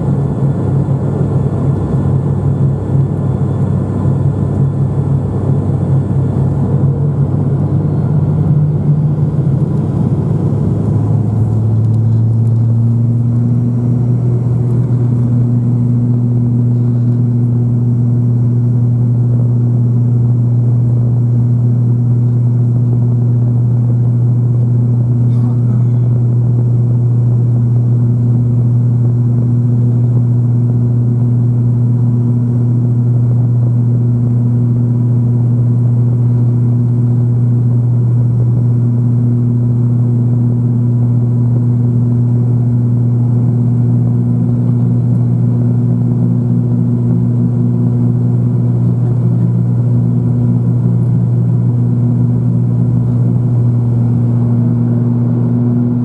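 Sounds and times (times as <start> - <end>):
propeller airliner cabin drone: 0.0 - 56.0.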